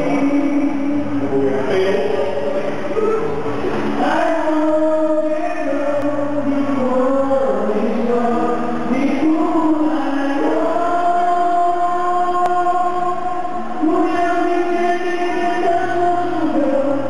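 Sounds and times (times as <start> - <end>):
voices singing slow melody: 0.0 - 17.0.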